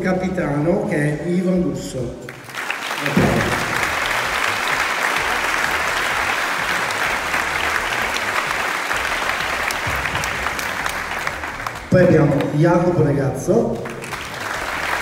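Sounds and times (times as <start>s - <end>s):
crowd applause: 2.3s - 15.0s.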